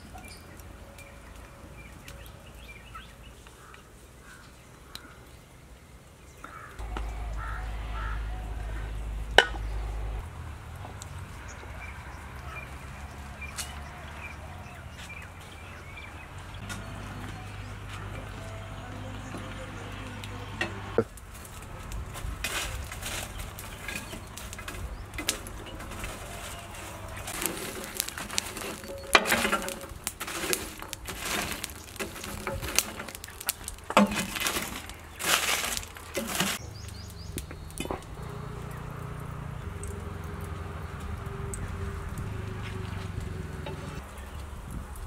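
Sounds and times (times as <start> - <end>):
charcoal raked with stick: 6.5 - 45.0.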